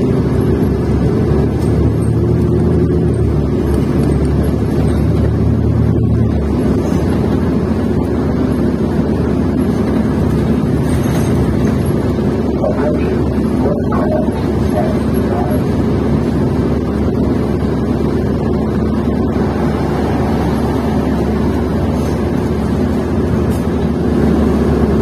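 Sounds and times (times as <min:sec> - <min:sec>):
bus engine running: 0:00.0 - 0:25.0
low engine drone: 0:00.0 - 0:25.0
road rumble: 0:00.0 - 0:25.0.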